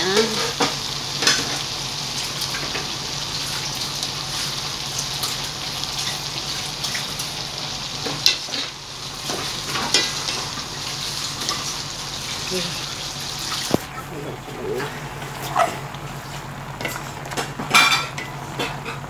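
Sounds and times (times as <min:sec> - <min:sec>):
vegetables sizzling in a pot: 0:00.0 - 0:19.0.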